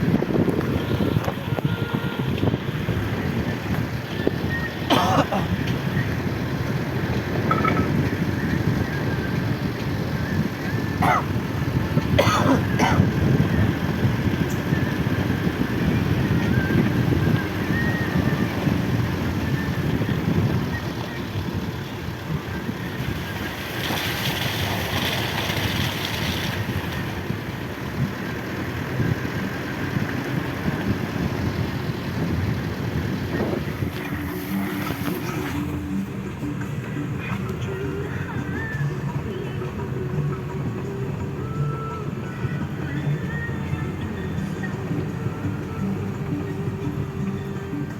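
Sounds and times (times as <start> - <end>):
vehicle engine under load: 0.0 - 47.9
wind buffeting microphone: 0.0 - 47.9.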